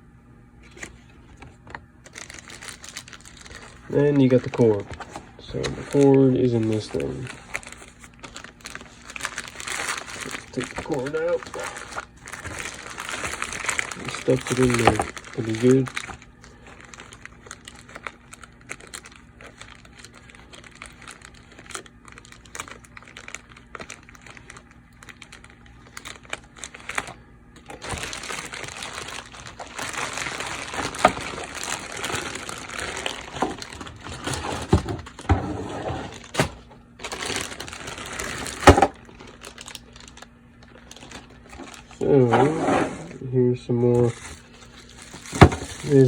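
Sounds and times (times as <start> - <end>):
packaging crinkling and rustling: 0.6 - 46.0.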